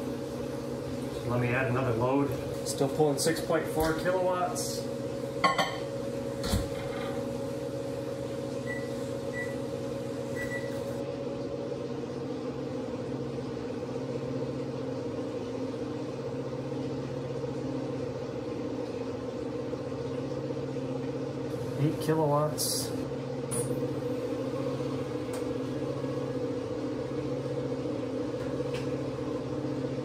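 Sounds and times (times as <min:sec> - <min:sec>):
inverters humming: 0:00.0 - 0:30.0.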